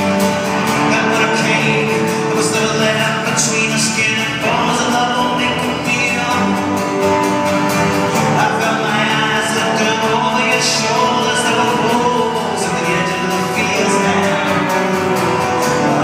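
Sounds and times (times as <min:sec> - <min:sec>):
acoustic guitar: 0:00.0 - 0:16.0
electric guitar: 0:00.0 - 0:16.0
upright double bass: 0:00.0 - 0:16.0.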